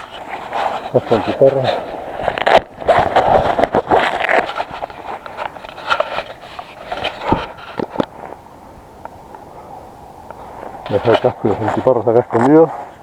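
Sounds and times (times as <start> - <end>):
dry brush crackling and rustling: 0.0 - 13.0.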